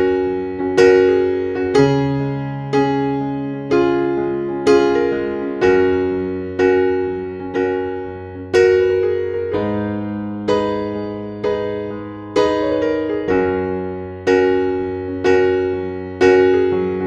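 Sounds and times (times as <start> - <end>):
slow electric piano chords: 0.0 - 17.0.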